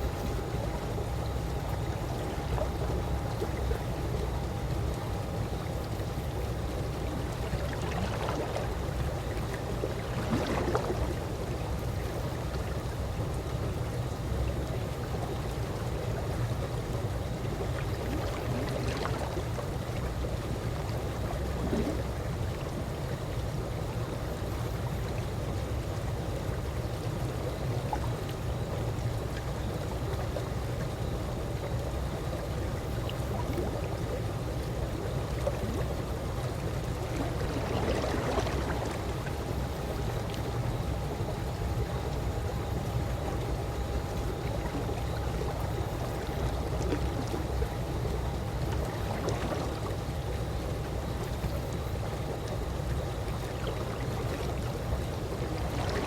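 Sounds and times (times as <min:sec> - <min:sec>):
pool water lapping: 0:00.0 - 0:56.0
soft water splashes: 0:00.0 - 0:56.0.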